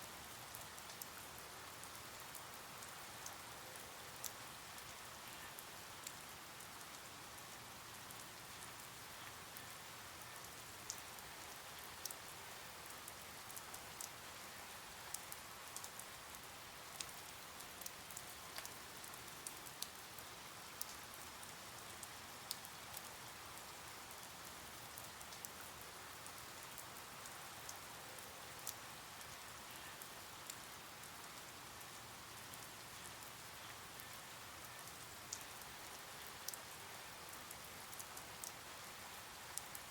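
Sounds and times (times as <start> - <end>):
faint rain hiss: 0.0 - 39.9
raindrops ticking: 0.2 - 39.9.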